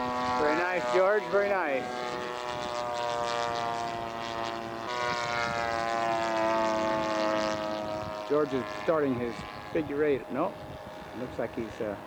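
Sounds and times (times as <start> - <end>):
model airplane propeller engine: 0.0 - 12.0.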